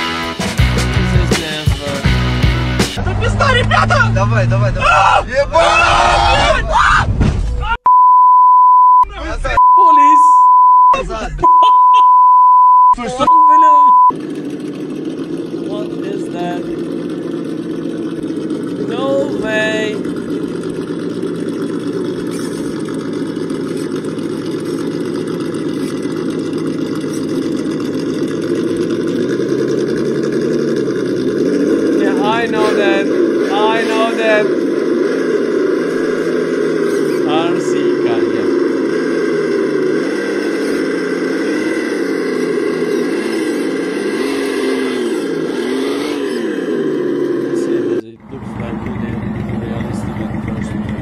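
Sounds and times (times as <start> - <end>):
truck engine humming at low revs: 0.0 - 6.1, 7.9 - 51.0.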